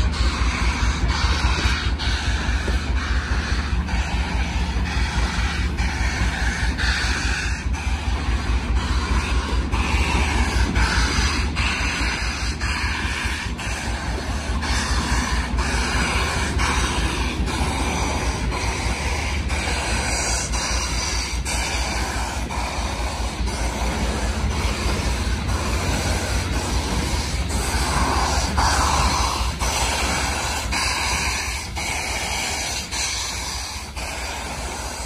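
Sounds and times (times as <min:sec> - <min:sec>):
steam hiss: 0:00.0 - 0:35.0
train rumble: 0:00.0 - 0:35.0
train wheels clicking over rails: 0:00.0 - 0:35.0.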